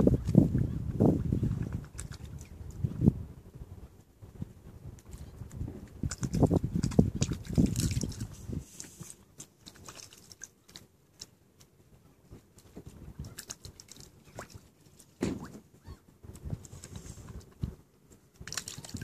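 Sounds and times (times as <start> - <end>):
swan bill dabbling and slurping: 0.0 - 3.1, 5.0 - 19.0.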